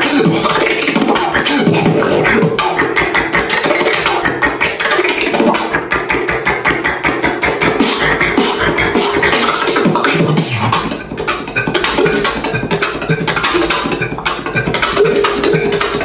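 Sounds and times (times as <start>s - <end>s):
beatboxing: 0.0s - 16.0s.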